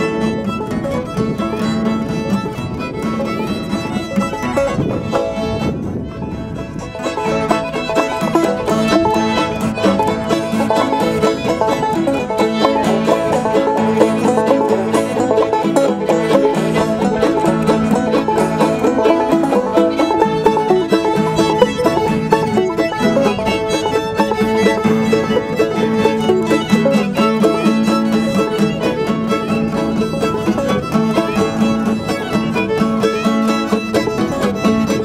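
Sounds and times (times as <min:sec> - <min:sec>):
fiddle: 0:00.0 - 0:35.0
plucked banjo: 0:00.0 - 0:35.0.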